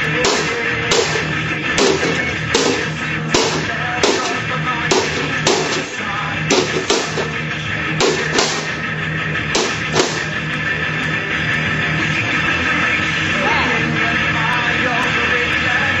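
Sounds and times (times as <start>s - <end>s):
instrumental heavy metal music: 0.0s - 16.0s.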